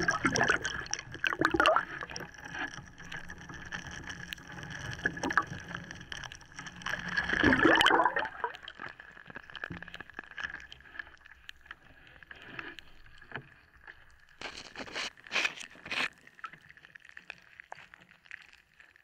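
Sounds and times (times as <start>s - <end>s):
water swishing: 0.0s - 9.6s, 10.4s - 16.6s
sponge cake crackling under water: 0.0s - 19.0s.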